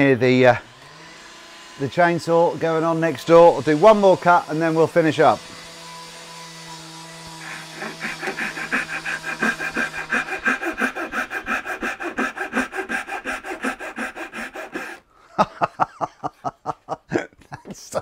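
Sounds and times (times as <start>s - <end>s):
pull saw cutting wood: 0.0s - 15.1s.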